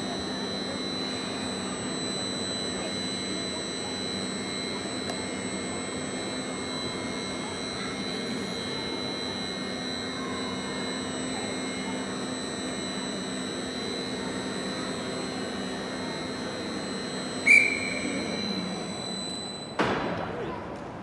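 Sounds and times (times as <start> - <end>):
crane hoist humming: 0.0 - 21.0.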